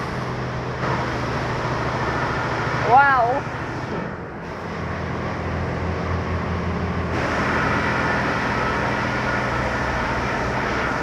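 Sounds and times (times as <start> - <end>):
car wash machine hum: 0.0 - 11.0.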